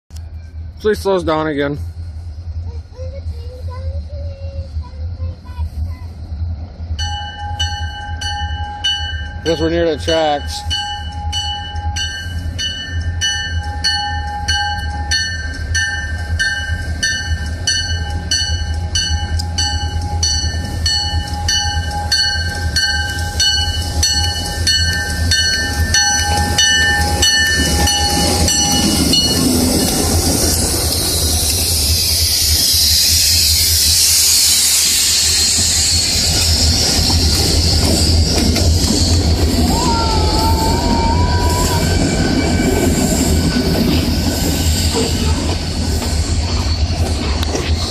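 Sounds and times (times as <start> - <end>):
diesel locomotive engines rumbling: 0.1 - 47.9
train wheels rushing: 0.2 - 47.9
locomotive bell ringing: 6.9 - 47.2.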